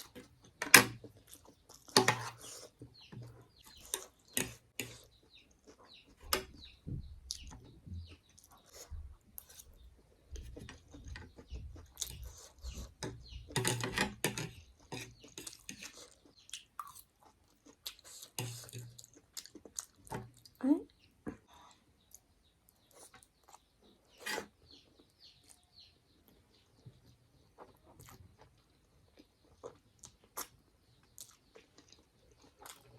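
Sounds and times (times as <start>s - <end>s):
person chewing food: 0.0s - 6.6s, 8.1s - 32.9s.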